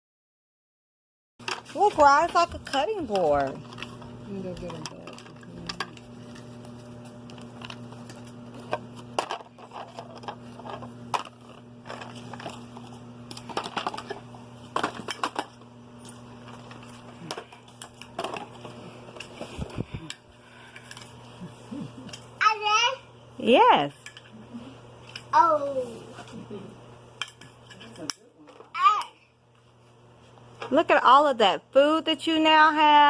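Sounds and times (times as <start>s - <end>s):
steady low hum: 1.5s - 33.0s.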